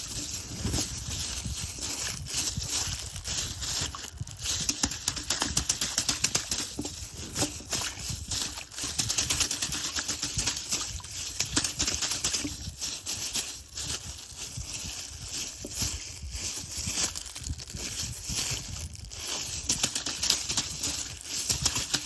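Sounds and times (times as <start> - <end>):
slime squeezed in plastic bag: 0.0 - 22.0.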